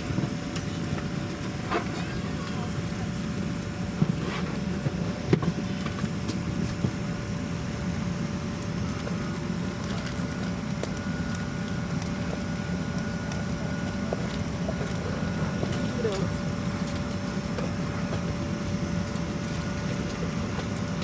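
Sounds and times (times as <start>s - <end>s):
airplane cabin hum: 0.0s - 21.0s.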